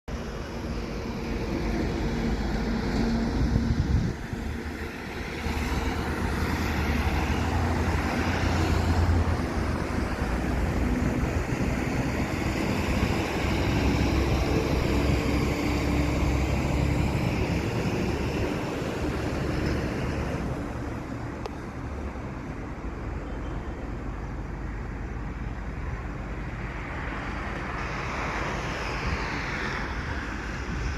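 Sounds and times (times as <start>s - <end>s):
truck engine drone: 0.1s - 30.9s.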